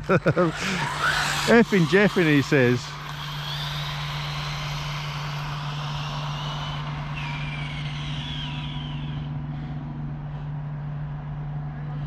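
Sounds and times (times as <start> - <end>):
rc car motor whining: 0.0 - 10.5
steady low hum: 0.0 - 12.0.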